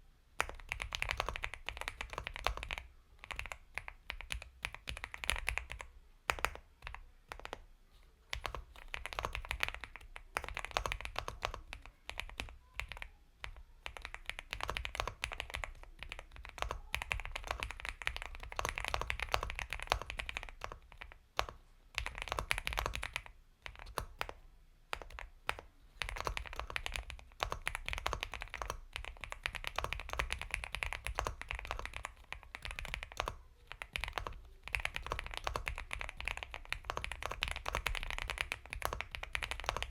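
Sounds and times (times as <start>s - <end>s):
typing on mechanical keyboard: 0.4s - 7.6s, 8.3s - 39.9s.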